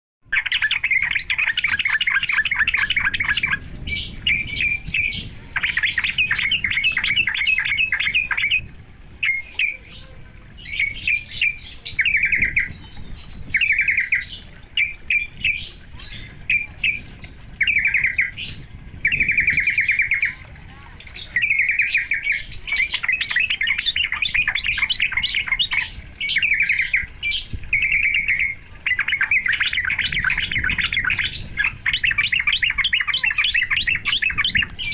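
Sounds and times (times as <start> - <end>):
bulbul chattering trills: 0.2 - 34.9.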